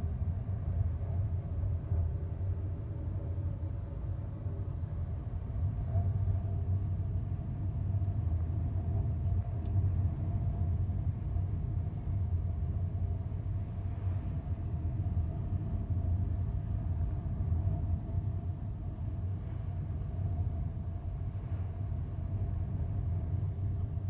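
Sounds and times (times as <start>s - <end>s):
faint hum of tones: 0.0s - 24.0s.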